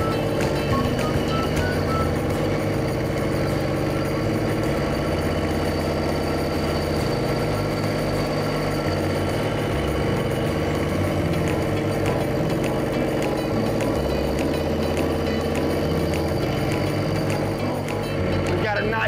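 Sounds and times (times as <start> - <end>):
road roller engine running: 0.0 - 19.0.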